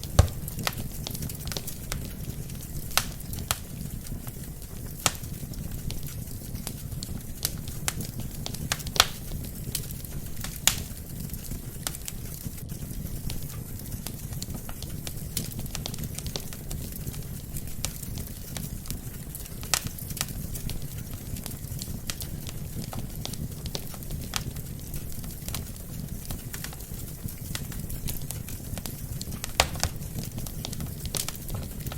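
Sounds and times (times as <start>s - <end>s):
burning logs crackling and popping: 0.0s - 31.9s
low rumble of flames: 0.0s - 31.9s.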